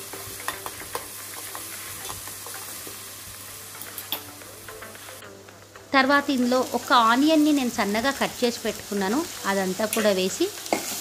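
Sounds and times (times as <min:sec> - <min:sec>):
paste sizzling in hot oil: 0:00.0 - 0:05.3, 0:06.0 - 0:11.0.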